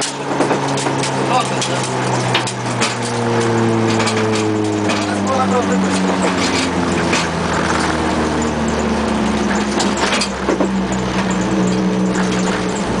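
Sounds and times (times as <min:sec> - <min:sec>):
car engine running: 0:00.0 - 0:13.0
tyres on gravel road: 0:00.0 - 0:13.0.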